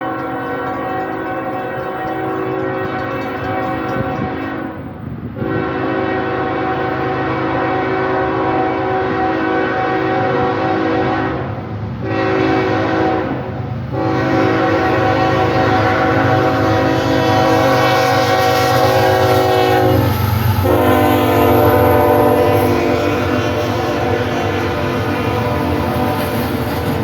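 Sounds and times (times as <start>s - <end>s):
locomotive air horn: 0.0s - 27.0s
passing train rumble: 0.0s - 27.0s.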